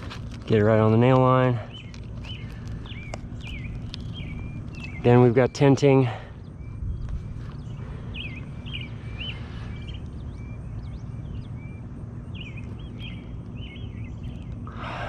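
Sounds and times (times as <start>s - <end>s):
low outdoor rumble: 0.0s - 15.0s
small bird chirping: 1.4s - 14.8s.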